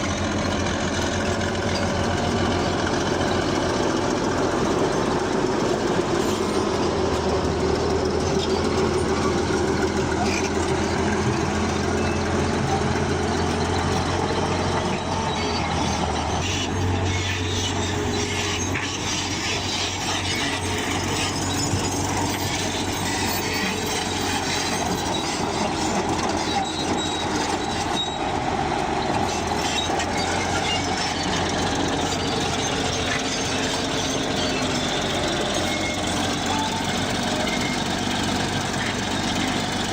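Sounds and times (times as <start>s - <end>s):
diesel engine running: 0.0s - 39.9s
steel tracks clanking and squealing: 0.0s - 39.9s.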